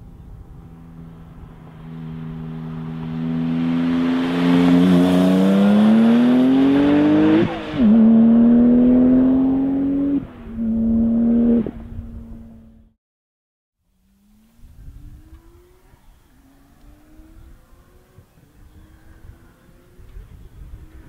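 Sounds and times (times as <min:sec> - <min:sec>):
sports car engine at full throttle: 0:00.0 - 0:12.9, 0:14.1 - 0:21.0.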